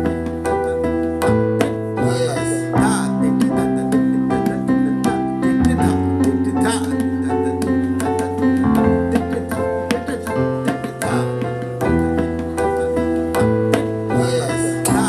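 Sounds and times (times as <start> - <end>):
held bass notes: 0.0 - 15.0
quick keyboard notes: 0.0 - 15.0.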